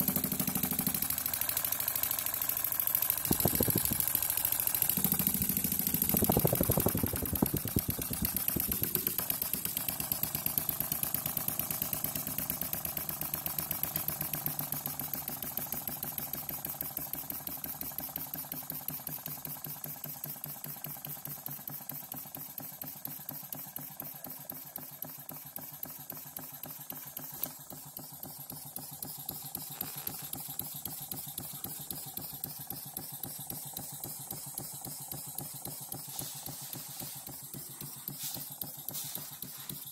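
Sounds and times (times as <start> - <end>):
model steam engine beating: 0.0 - 39.9.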